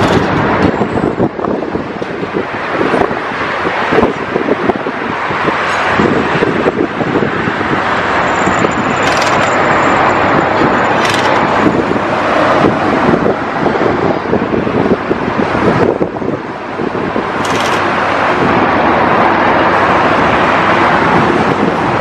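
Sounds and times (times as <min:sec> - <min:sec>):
heavy machinery running and rattling: 0:00.0 - 0:22.0.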